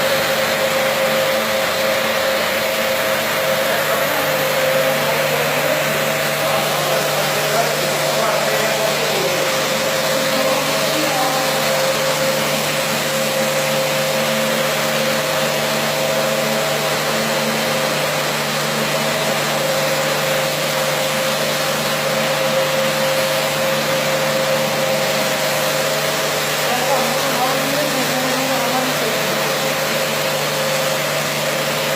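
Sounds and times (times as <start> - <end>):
carpet-washing machine running: 0.0 - 31.9.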